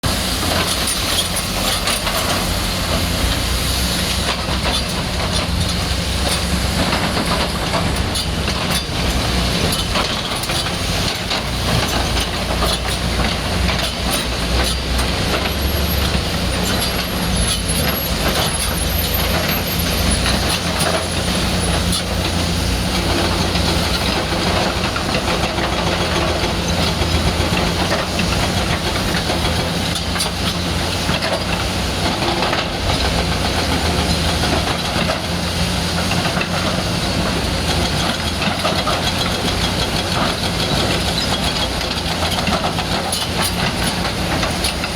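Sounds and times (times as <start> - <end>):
excavator diesel engine running: 0.0 - 44.9
steel scraping hard ground: 0.0 - 44.9.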